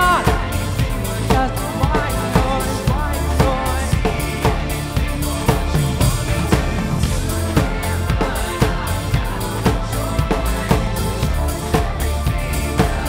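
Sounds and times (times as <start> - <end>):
kick and snare drum beat: 0.0 - 13.0
live band playing instrumental: 0.0 - 13.0.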